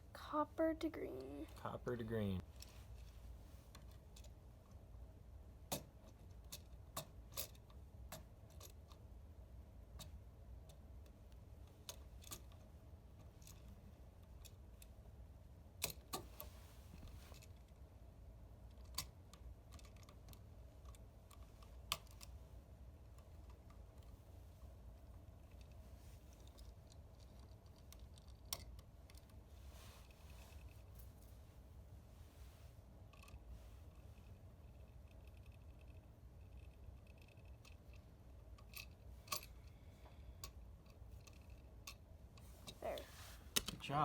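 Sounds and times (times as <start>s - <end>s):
faint low hum: 0.0s - 44.0s.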